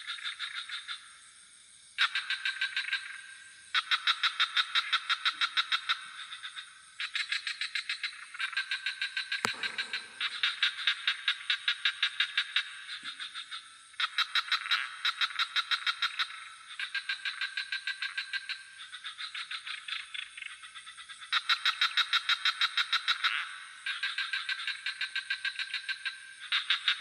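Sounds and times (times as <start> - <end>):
frogs calling in pulsed trills: 0.0 - 27.0.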